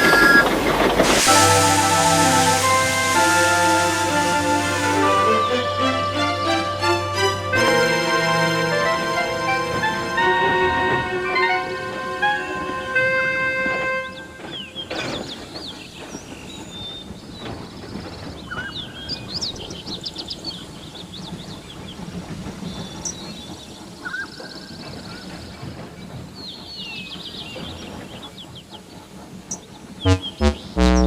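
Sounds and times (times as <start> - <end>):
train rumbling along track: 0.0 - 30.0.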